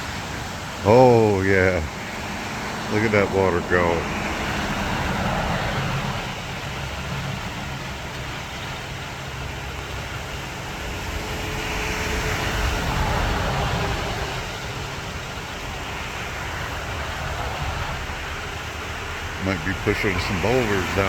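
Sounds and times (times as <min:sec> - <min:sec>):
flood water rushing: 0:00.0 - 0:21.0.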